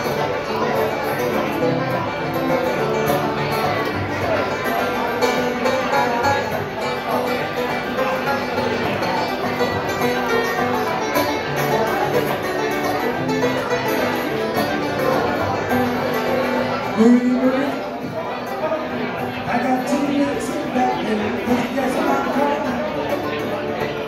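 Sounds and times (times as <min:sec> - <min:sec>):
bluegrass string band playing: 0:00.0 - 0:24.0.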